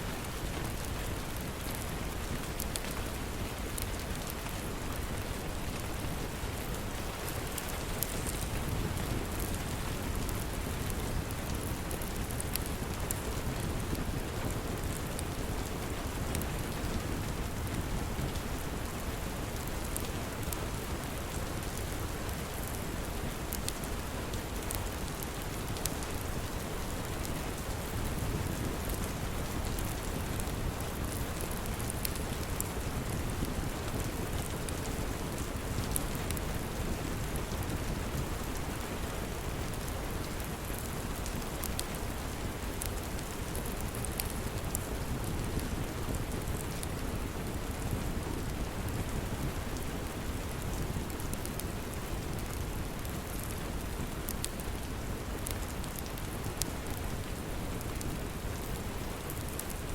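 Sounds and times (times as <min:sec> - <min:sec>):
steady rain: 0:00.0 - 0:59.9
log fire crackling: 0:00.1 - 0:59.9.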